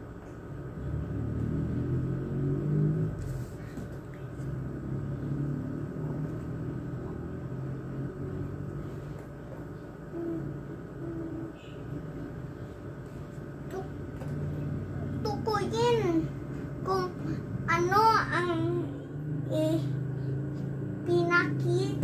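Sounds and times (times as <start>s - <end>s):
passing vehicle engine rumble: 0.5s - 22.0s.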